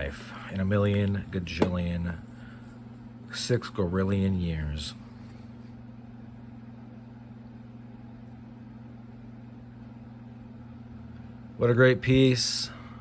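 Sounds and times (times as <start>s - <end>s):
steady low two-tone hum: 0.0s - 13.0s.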